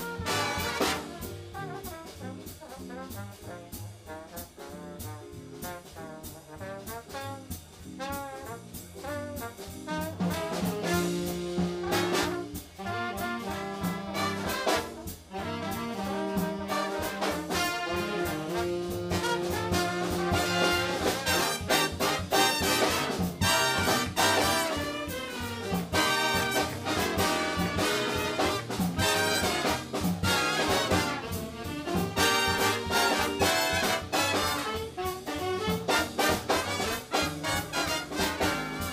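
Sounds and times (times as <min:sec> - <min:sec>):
big band playing swing: 0:00.0 - 0:38.9
brass section chords: 0:00.0 - 0:38.9
trombone solo: 0:00.0 - 0:38.9.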